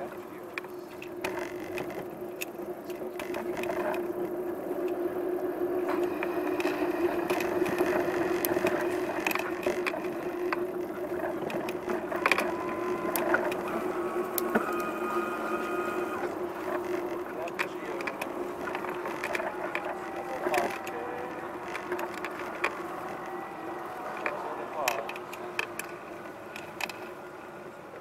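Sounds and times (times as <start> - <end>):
bike humming in motion: 0.0 - 28.0
clicks and rattles: 0.4 - 5.1, 5.7 - 15.0, 16.1 - 27.2.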